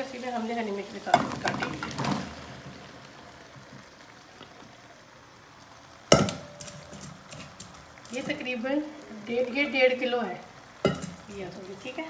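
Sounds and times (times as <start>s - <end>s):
pot sizzling faintly: 0.0s - 12.0s.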